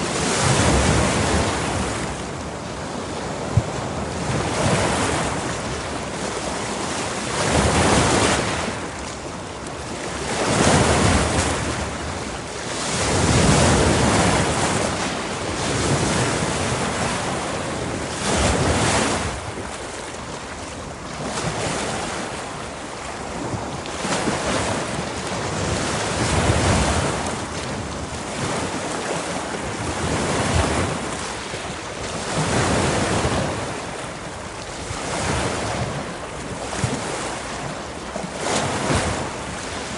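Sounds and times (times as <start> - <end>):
waves breaking: 0.0 - 39.9
wind: 0.0 - 39.9.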